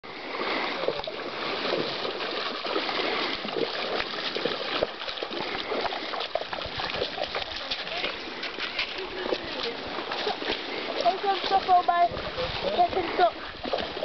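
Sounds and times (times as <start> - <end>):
splashing through water: 0.0 - 14.0.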